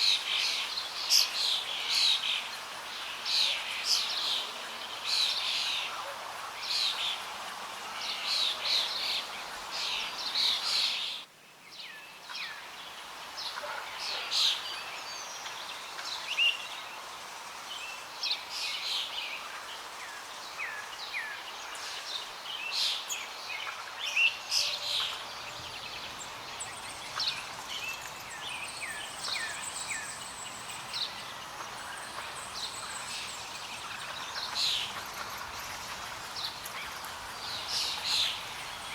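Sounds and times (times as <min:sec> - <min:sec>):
outdoor background noise: 0:00.0 - 0:38.9
small birds chirping: 0:00.0 - 0:38.9.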